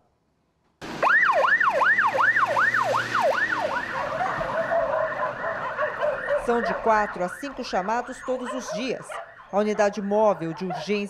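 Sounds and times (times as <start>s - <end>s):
siren wailing: 0.8s - 11.0s.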